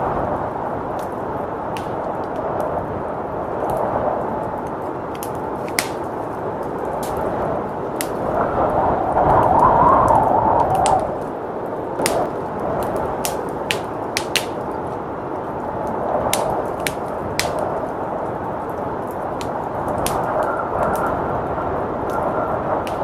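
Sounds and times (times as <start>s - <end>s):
blizzard wind rushing: 0.0s - 23.0s
wood fire crackling: 0.0s - 23.0s.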